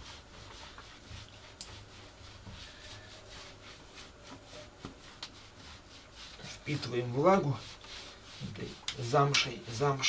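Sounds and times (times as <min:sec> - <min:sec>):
hands rubbing wet fur: 0:00.0 - 0:10.0.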